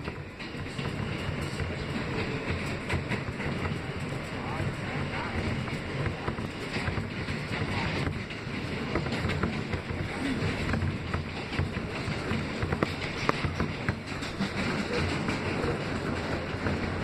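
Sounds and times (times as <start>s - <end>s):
rumble of wheels on rail: 0.0s - 17.0s
sharp clicks of train wheels: 0.0s - 17.0s.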